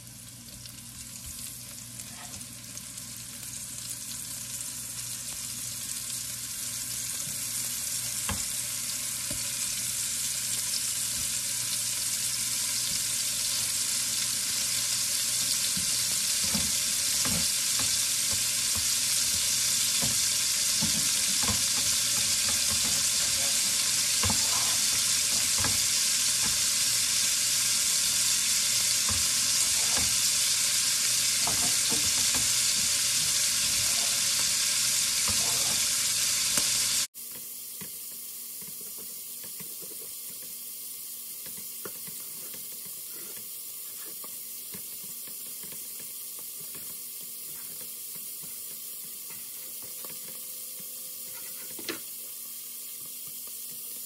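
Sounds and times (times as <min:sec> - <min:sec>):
meat sizzling in fat: 0:00.0 - 0:54.0.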